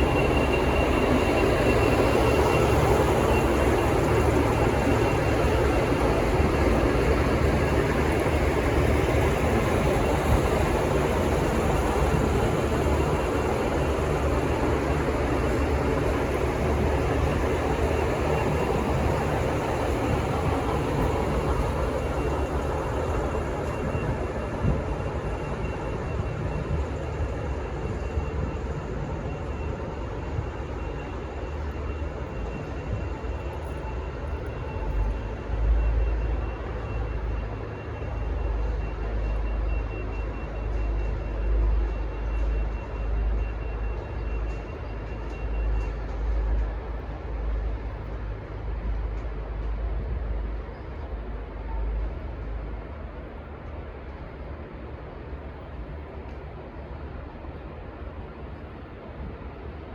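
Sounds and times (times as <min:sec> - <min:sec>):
diesel railcar rumbling: 0:00.0 - 0:59.9.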